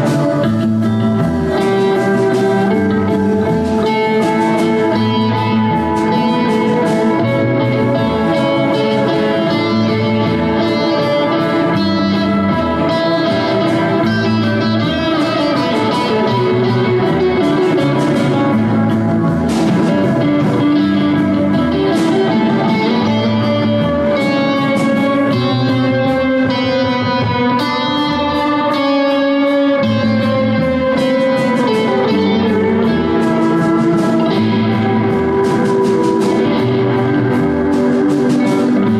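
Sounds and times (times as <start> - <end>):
bass line: 0.0 - 38.9
drums: 0.0 - 38.9
electric guitar lead: 0.0 - 38.9.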